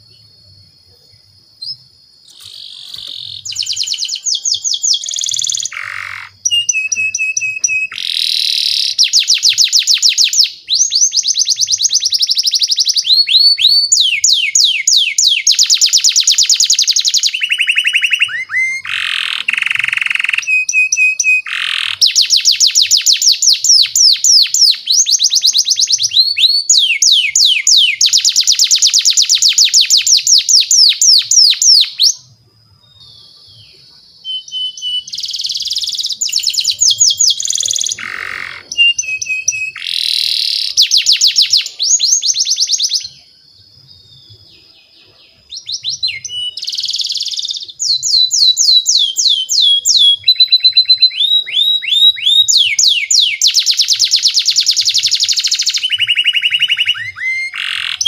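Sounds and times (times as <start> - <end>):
canary singing: 1.2 - 58.0.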